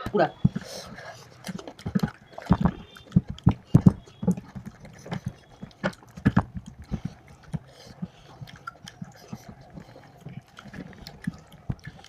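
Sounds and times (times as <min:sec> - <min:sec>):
chewing mouth smacks: 0:00.4 - 0:12.0.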